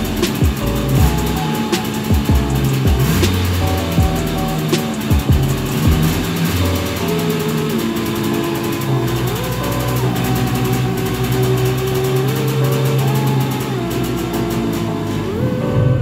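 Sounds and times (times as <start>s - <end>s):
moped two-stroke engine running: 0.0s - 15.6s.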